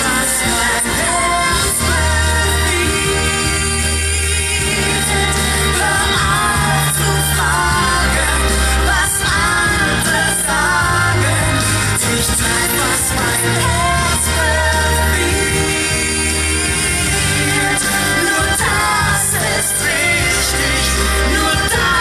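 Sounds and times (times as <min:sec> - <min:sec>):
pop song over sound system: 0:00.0 - 0:22.0.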